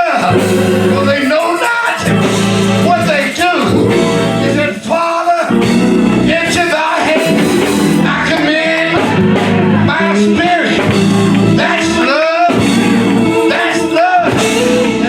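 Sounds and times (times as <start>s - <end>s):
instrumental backing music: 0.0s - 15.0s.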